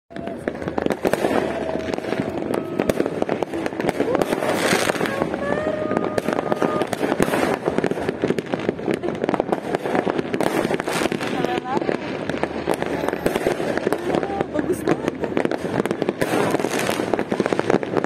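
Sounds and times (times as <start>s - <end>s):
fireworks popping and crackling: 0.1s - 18.0s.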